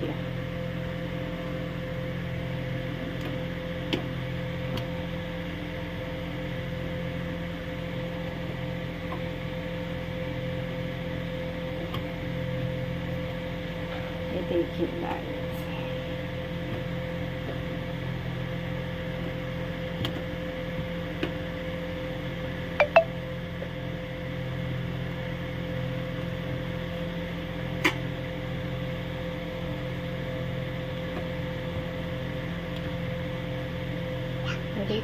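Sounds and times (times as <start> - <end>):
steady appliance hum: 0.0 - 35.0.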